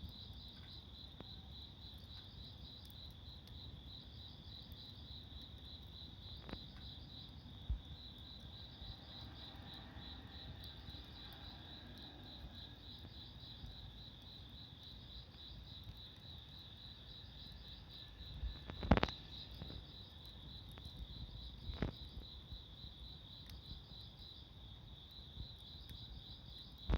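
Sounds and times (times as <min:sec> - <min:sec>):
crickets chirping: 0:00.0 - 0:26.9
wood fire popping: 0:00.0 - 0:26.9.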